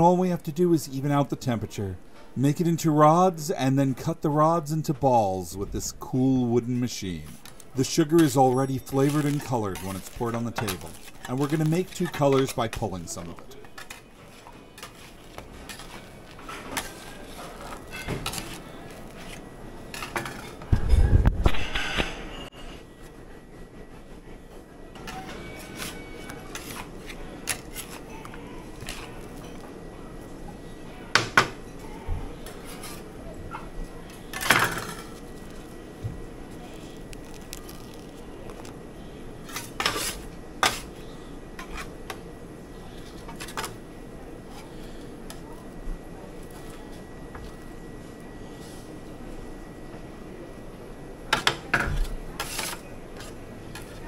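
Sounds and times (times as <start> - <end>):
steady background hum: 0.0 - 54.0.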